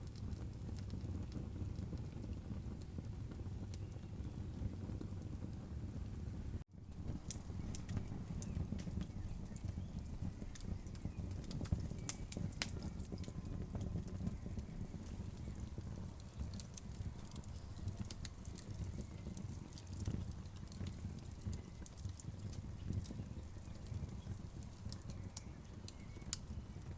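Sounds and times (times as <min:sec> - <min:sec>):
wood fire crackling: 0:00.0 - 0:26.9.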